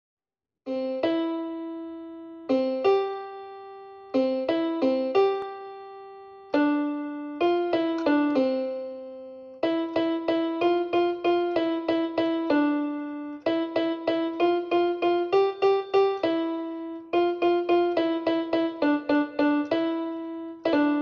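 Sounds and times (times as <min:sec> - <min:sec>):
slow keyboard melody: 0:00.7 - 0:21.0.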